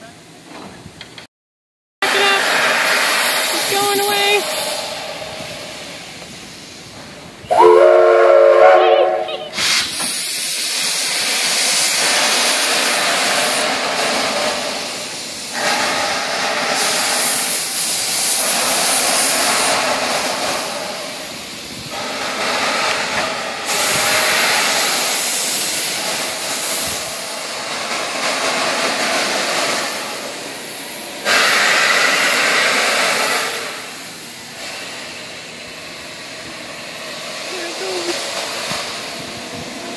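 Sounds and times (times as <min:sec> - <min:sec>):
steam locomotive hissing steam: 0:02.0 - 0:39.9.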